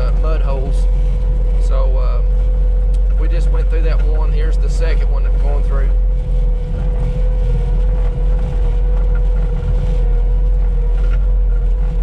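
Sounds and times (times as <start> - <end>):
track loader diesel engine: 0.0 - 12.0.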